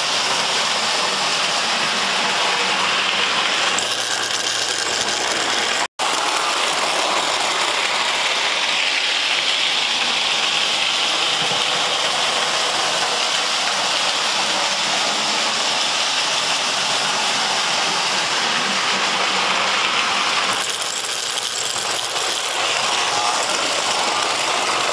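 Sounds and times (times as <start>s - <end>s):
model trains rattling on track: 0.0s - 24.9s.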